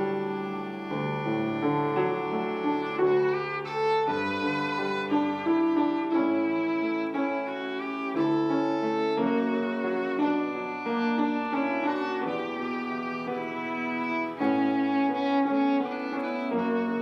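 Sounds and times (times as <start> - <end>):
piano accompaniment: 0.0 - 17.0
violin playing slow hymn melody: 0.0 - 17.0.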